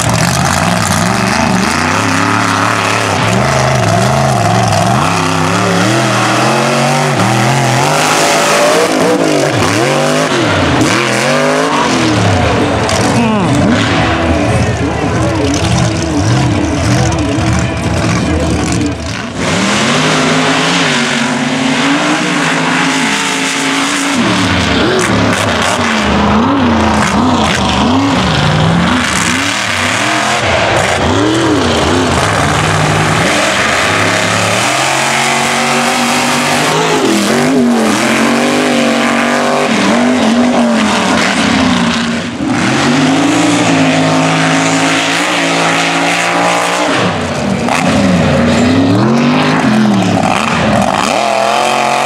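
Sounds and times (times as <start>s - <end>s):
engines revving hard: 0.0s - 52.0s.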